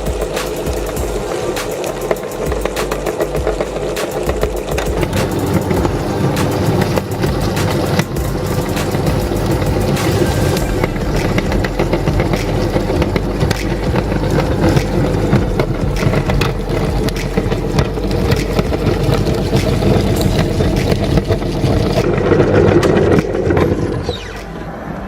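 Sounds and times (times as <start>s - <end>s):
meat grinder motor humming: 0.0s - 24.0s.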